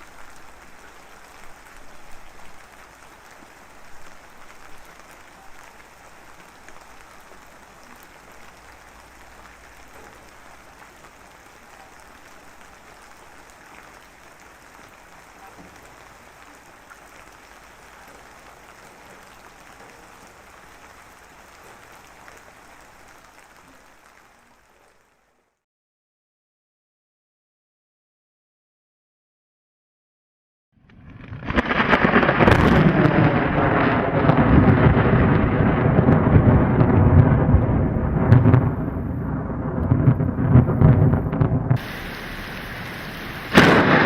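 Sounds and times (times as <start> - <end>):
steady rain: 0.0 - 25.6, 30.9 - 44.0.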